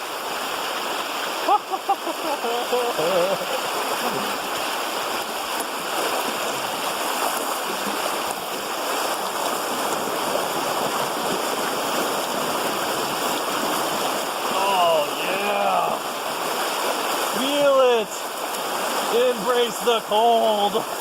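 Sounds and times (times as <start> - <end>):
fast river rushing: 0.0 - 21.0.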